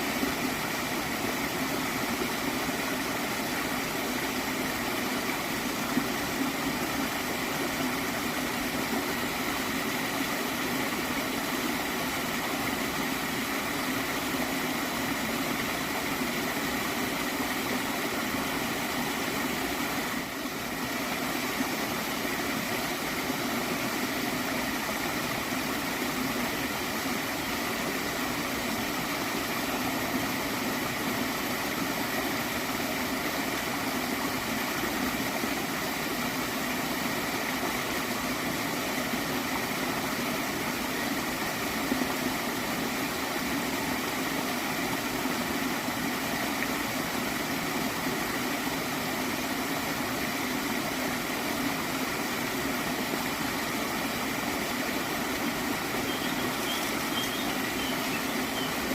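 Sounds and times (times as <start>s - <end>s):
stream flowing and gurgling: 0.0s - 58.9s.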